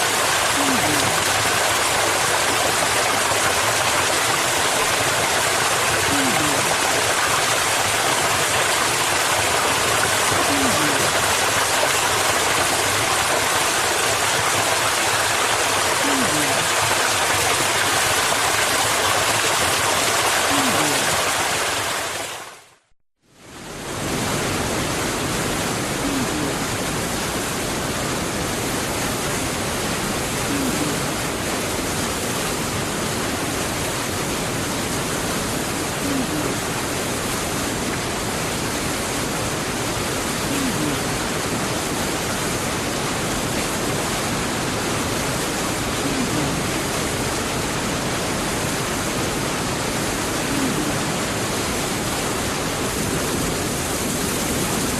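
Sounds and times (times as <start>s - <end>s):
dense rainfall hiss: 0.0s - 22.7s, 23.4s - 54.9s.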